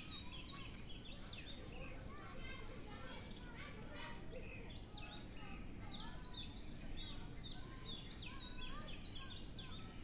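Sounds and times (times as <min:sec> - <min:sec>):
small birds chirping: 0:00.0 - 0:03.7, 0:04.3 - 0:10.0.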